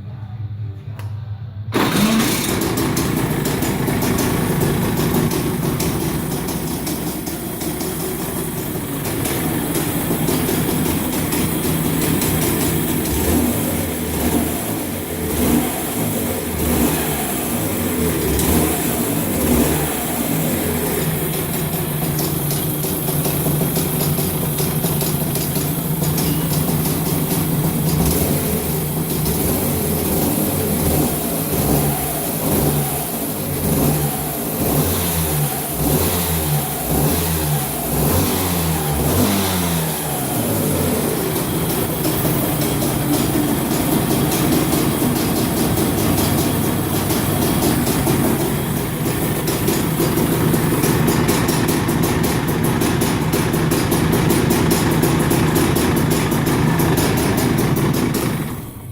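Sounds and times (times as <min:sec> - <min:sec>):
kart engine revving: 0:01.7 - 0:58.9.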